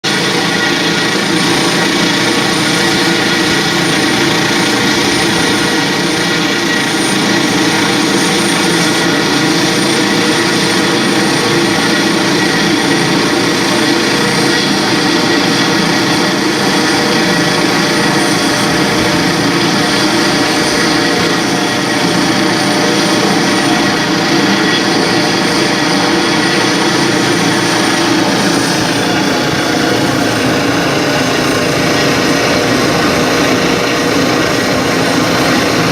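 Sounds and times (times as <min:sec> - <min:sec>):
helicopter turbine and rotor: 0:00.0 - 0:35.9.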